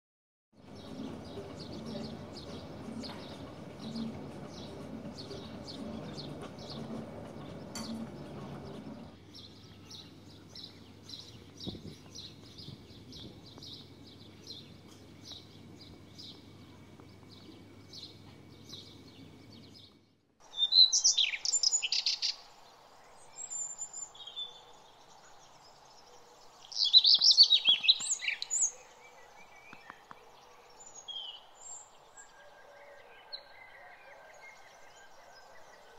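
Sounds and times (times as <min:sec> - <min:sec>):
loud bird song: 0:00.6 - 0:35.9
outdoor background noise: 0:00.6 - 0:35.9
small bird chirping: 0:00.7 - 0:32.3.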